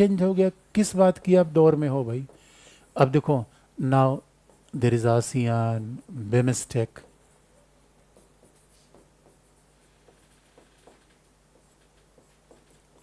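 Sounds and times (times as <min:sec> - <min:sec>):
chalk tapping on blackboard: 0:00.0 - 0:03.4, 0:04.0 - 0:13.0.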